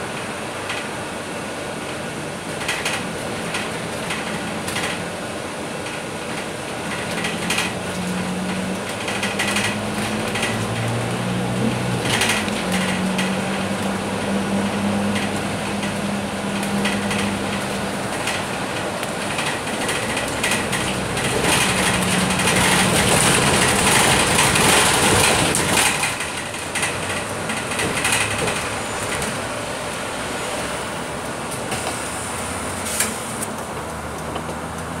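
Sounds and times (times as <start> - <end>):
bus diesel engine: 0.0 - 35.0.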